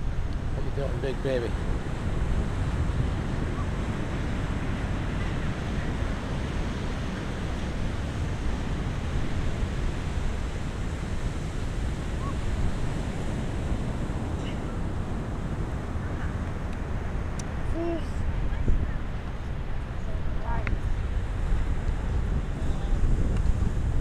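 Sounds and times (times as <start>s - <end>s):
ocean surf: 0.0s - 24.0s
wind over microphone: 0.0s - 24.0s.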